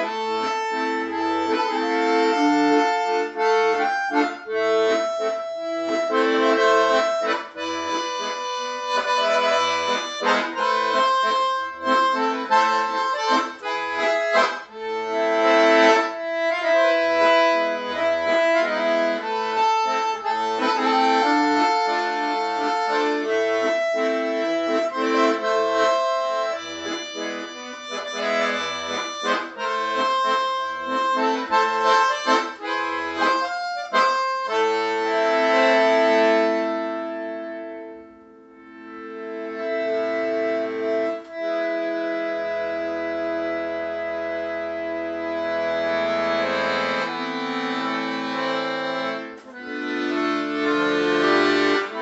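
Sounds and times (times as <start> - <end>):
piano accordion playing: 0.0 - 52.0.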